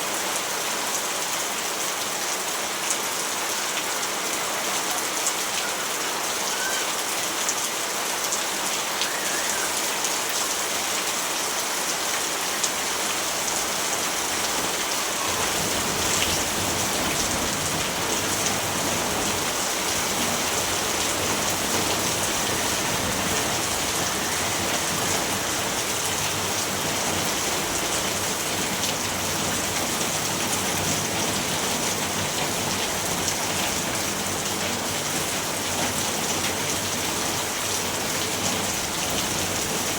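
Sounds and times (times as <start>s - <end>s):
rain hissing: 3.4s - 39.9s.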